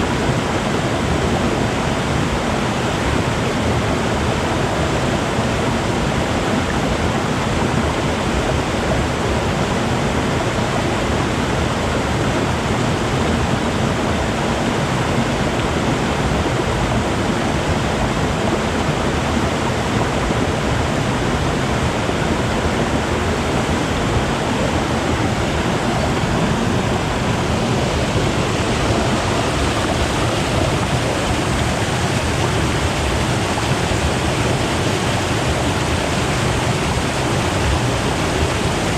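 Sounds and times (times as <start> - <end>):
river water flowing and gurgling: 0.0 - 38.9.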